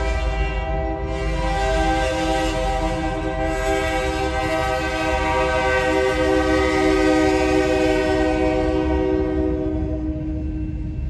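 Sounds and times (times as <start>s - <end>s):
locomotive air horn chord: 0.0s - 10.5s
low rumble of train: 0.0s - 11.0s.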